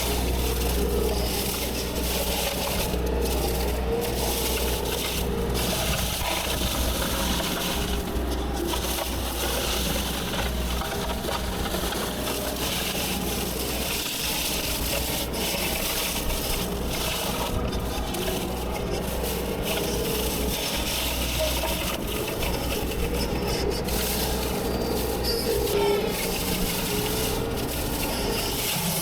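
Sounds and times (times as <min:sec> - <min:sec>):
brush and branches crushing: 0:00.0 - 0:29.0
heavy diesel machine running: 0:00.0 - 0:29.0.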